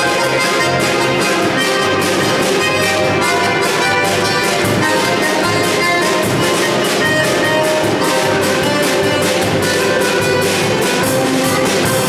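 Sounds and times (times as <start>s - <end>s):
accordion: 0.0s - 12.0s
drum kit beat: 0.0s - 12.0s
violin melody: 0.0s - 12.0s.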